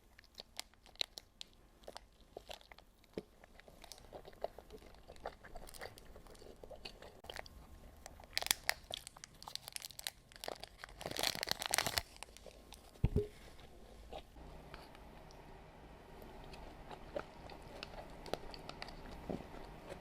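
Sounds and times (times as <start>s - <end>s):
chewing and crunching food: 0.0s - 15.0s, 16.2s - 20.0s.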